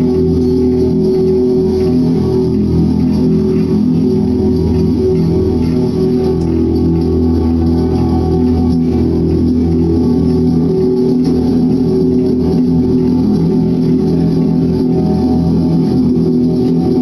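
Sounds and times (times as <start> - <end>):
electric guitars sustained chords: 0.0 - 17.0.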